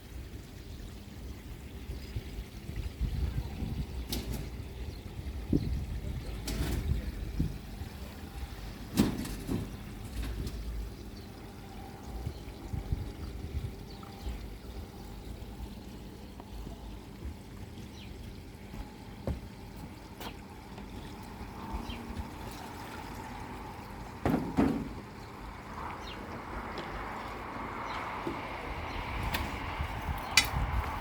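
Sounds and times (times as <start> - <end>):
water trickling into pond: 0.0 - 31.0.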